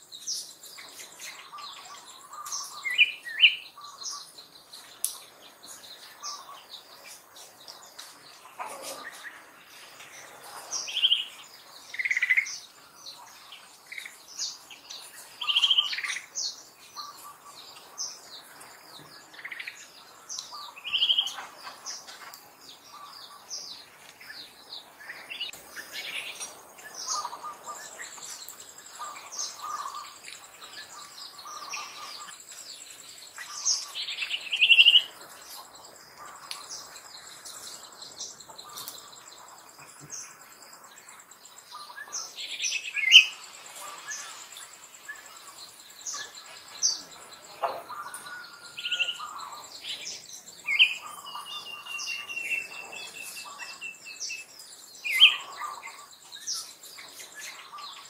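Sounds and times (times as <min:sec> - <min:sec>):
loud bird calls: 0:00.0 - 0:58.0
small birds chirping: 0:00.0 - 0:58.0.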